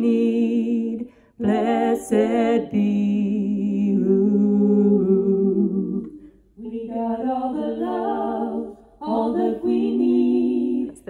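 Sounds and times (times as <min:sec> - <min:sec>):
woman singing a cappella: 0:00.0 - 0:11.0.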